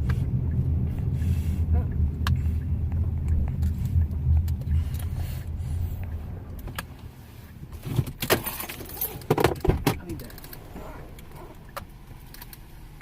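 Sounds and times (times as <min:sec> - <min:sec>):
road rumble inside car: 0:00.0 - 0:13.0.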